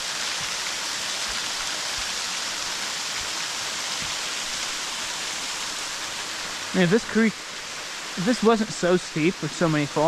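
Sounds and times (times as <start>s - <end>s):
mountain creek over small waterfalls: 0.0s - 10.0s.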